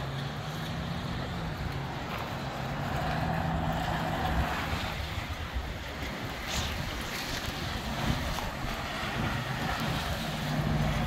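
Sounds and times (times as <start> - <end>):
gusty wind: 0.0 - 11.0
low motor hum: 0.0 - 11.0
rain rushing: 0.0 - 11.0.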